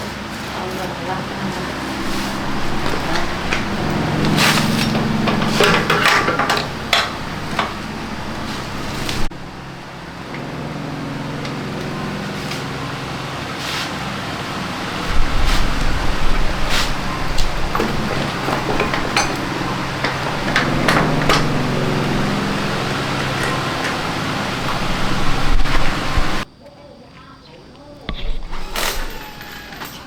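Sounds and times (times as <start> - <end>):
steady low hum: 0.0 - 26.5
hand tools clinking on metal: 0.6 - 9.3, 10.2 - 26.4, 28.6 - 30.0.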